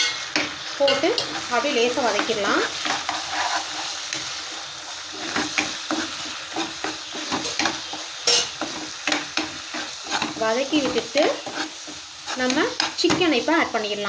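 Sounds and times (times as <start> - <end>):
metal spoon scraping a pan: 0.0 - 13.9
masala sizzling in a pan: 0.0 - 14.0.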